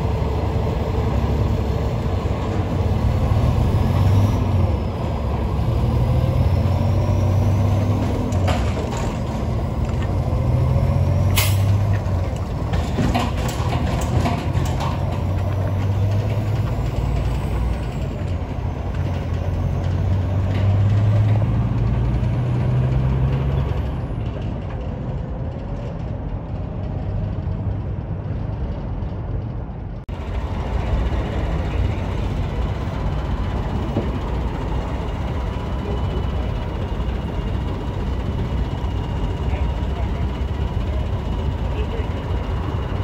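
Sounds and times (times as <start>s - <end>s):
truck diesel engine pulling away: 0.0s - 29.5s, 30.1s - 43.0s
truck diesel engine running: 0.0s - 43.0s.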